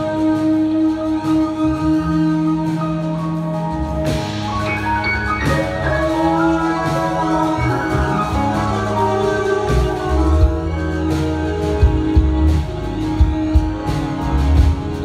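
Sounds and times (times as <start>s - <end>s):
drums: 0.0s - 15.0s
electric bass: 0.0s - 15.0s
keyboard chords: 0.0s - 15.0s
trumpet: 0.0s - 15.0s.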